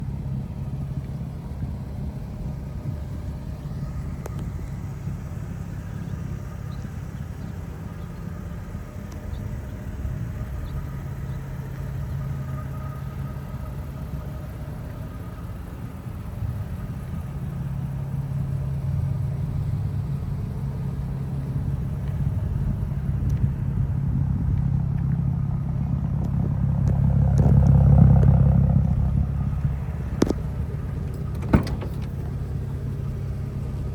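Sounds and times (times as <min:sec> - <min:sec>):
car exhaust rumble: 0:00.0 - 0:33.9.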